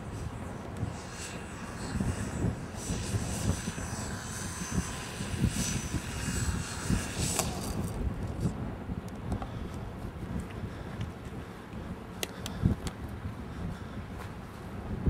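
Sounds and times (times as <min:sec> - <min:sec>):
model plane motor whine: 0:00.0 - 0:15.0
wind buffeting microphone: 0:00.0 - 0:15.0.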